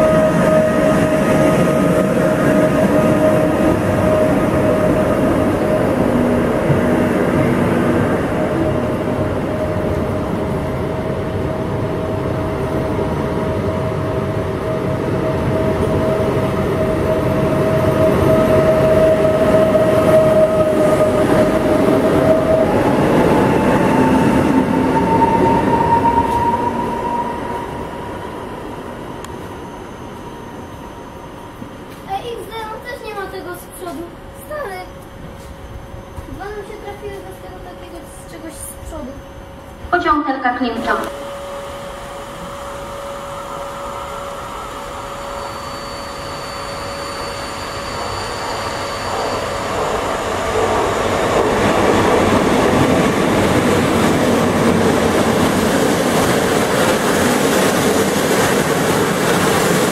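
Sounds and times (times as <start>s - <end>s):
electric train whine: 0.0s - 59.9s
train rolling noise: 0.0s - 59.9s.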